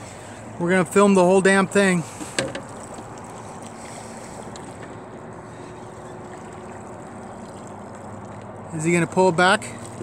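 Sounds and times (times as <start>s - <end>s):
water noise: 0.0s - 10.0s
wind: 0.0s - 10.0s.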